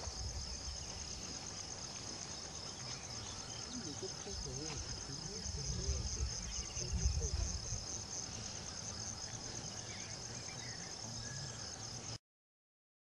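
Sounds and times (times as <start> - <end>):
crickets chirping: 0.0 - 12.2.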